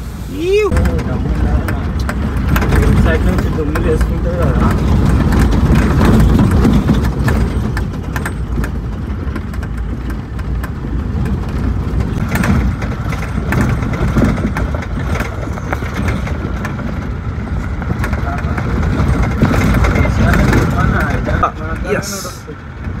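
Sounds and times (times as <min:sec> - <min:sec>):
vehicle engine and road rumble: 0:00.0 - 0:23.0
knocks and rattles from bumps: 0:00.7 - 0:21.9.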